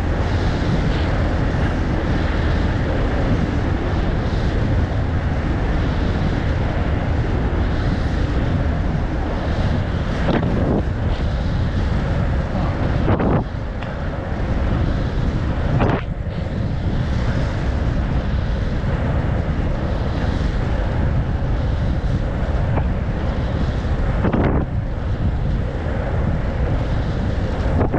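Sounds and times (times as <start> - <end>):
wind rushing over microphone: 0.0 - 27.9.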